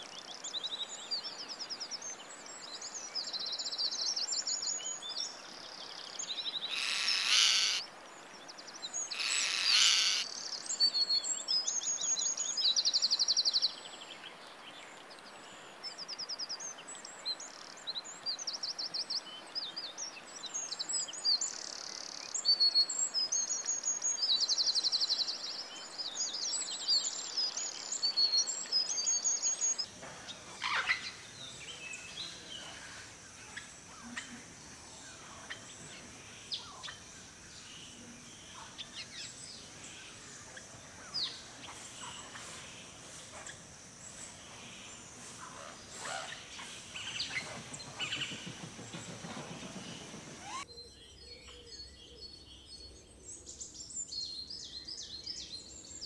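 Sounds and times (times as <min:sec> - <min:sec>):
low hiss of ambient noise: 0:00.0 - 0:56.0
birds chirping and trilling: 0:00.2 - 0:15.9, 0:19.8 - 0:56.0.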